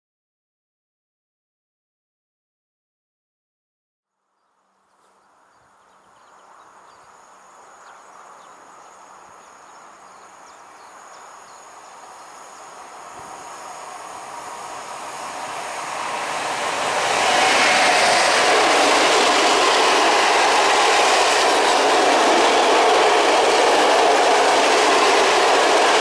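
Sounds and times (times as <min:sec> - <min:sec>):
train wheel and rail noise: 0:05.0 - 0:26.0.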